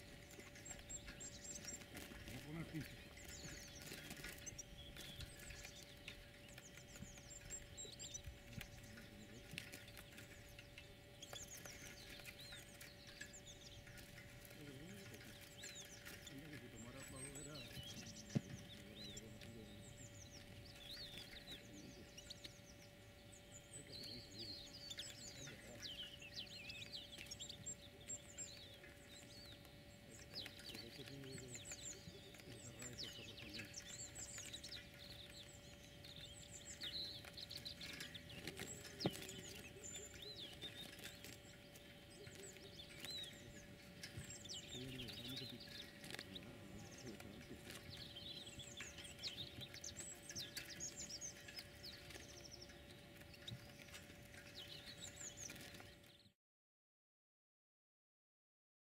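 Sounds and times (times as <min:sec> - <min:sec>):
faint steady hum: 0:00.0 - 0:56.2
small birds chirping: 0:00.0 - 0:56.4.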